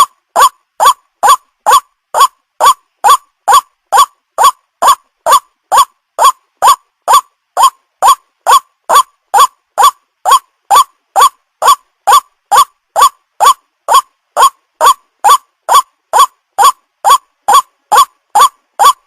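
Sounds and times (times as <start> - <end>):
waterhen call: 0.0 - 19.0.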